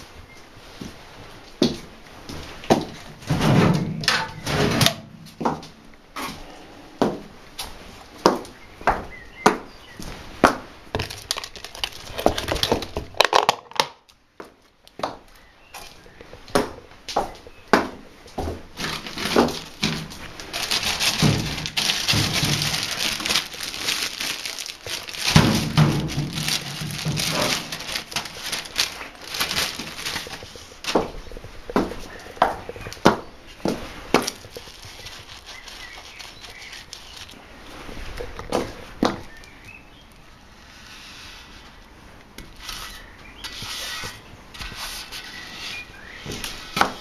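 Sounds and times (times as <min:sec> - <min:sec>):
rustling and scraping: 0:00.0 - 0:09.1, 0:09.9 - 0:13.8, 0:15.2 - 0:39.8, 0:40.4 - 0:47.0.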